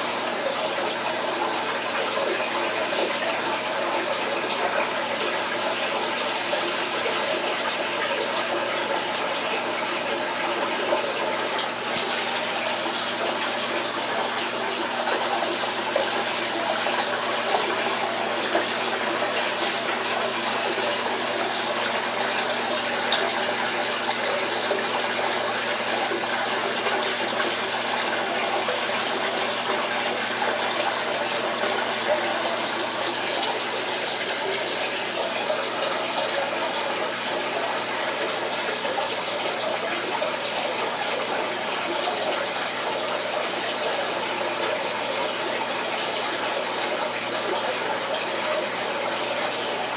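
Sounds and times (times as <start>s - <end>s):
water splashing in aquarium: 0.0s - 49.9s.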